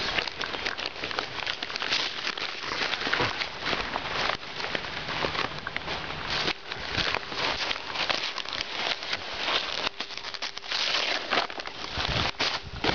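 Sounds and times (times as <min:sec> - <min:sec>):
paper sack crinkling and rustling: 0:00.0 - 0:12.9.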